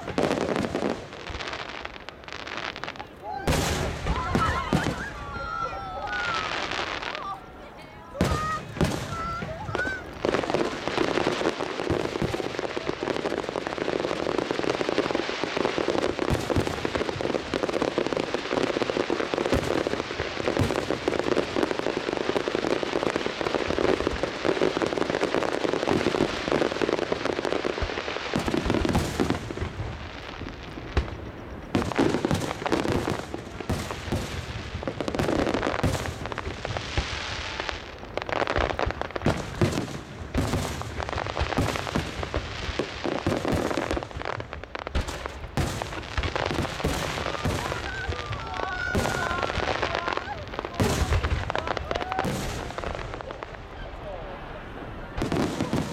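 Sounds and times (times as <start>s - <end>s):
fireworks crackling: 0.0s - 55.9s.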